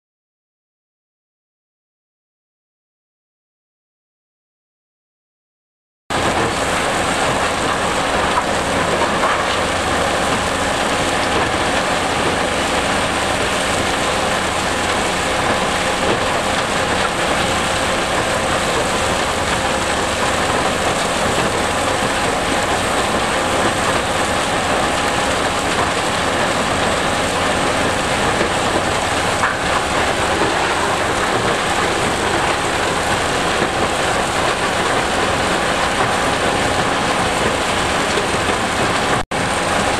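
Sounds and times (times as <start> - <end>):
rock crusher rumbling: 6.1 - 39.9
crushed stone pouring off conveyor: 6.2 - 39.9.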